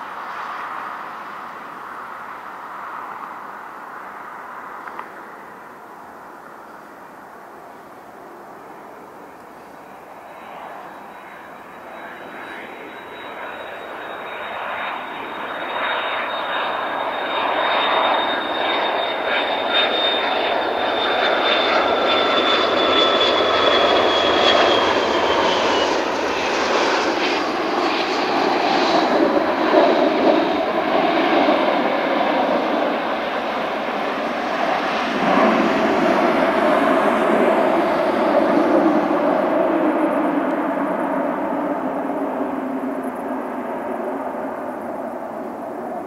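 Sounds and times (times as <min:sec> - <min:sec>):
jet engine whine: 0:00.0 - 0:46.0
jet landing rumble: 0:00.0 - 0:46.0.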